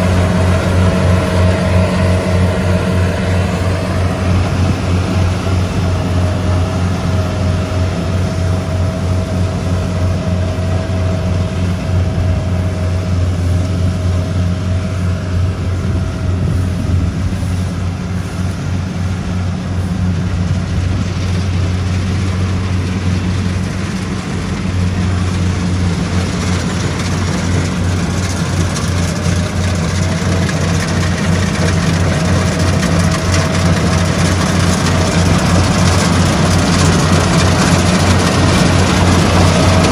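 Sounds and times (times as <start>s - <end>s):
harvester engine droning: 0.0s - 39.9s
machinery whine: 0.0s - 39.9s.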